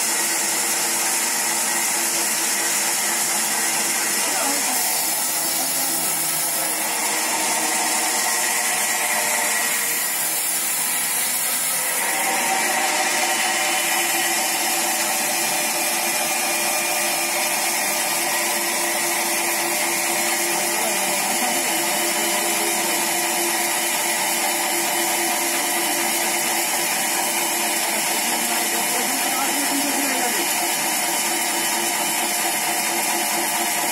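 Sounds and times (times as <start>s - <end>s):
band saw cutting log: 0.0s - 33.9s.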